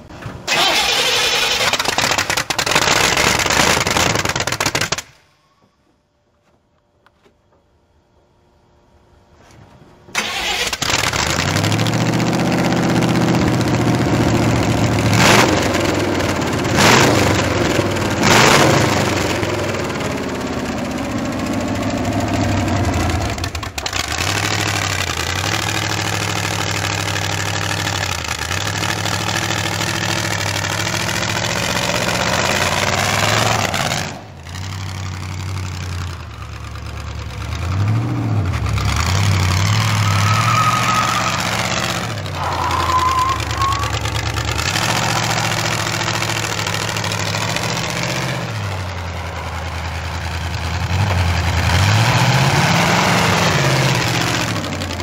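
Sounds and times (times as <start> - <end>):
car engine starting and revving: 0.4 - 4.9, 10.2 - 55.0
car engine idling: 10.2 - 18.2, 18.8 - 55.0.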